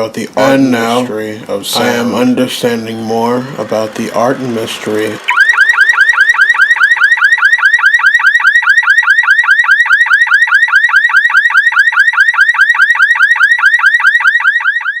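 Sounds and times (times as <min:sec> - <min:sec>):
electronic warbling alarm tone: 0:01.7 - 0:15.0.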